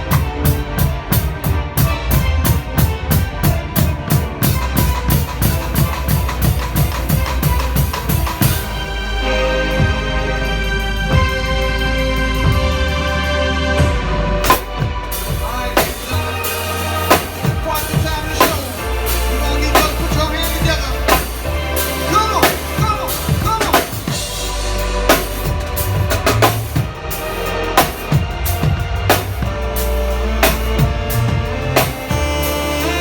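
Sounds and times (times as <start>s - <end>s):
drum kit kick and snare: 0.0s - 9.0s, 13.8s - 33.0s
keyboard chords: 0.0s - 33.0s.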